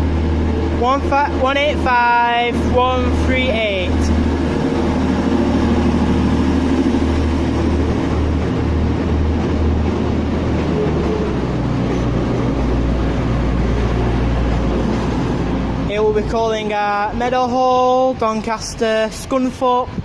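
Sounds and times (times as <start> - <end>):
train diesel engines droning: 0.0 - 20.0.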